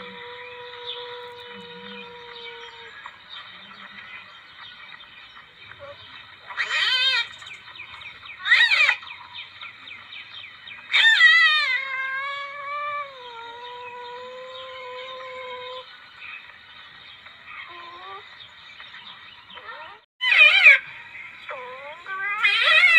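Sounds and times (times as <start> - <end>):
civet calling: 0.0 - 16.5, 17.5 - 22.9.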